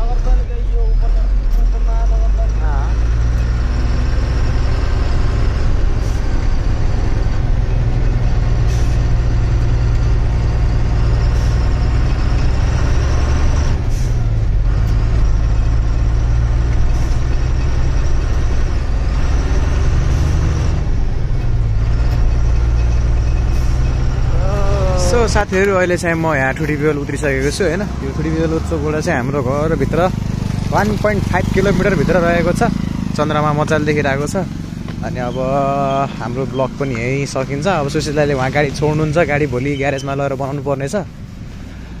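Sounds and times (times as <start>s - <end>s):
truck diesel engine drone: 0.0s - 42.0s.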